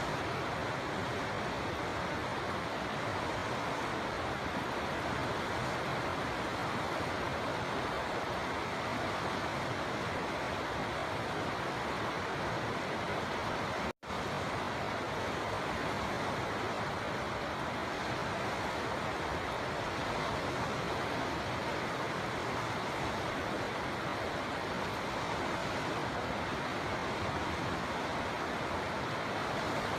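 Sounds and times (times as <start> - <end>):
river water flowing: 0.0 - 29.9.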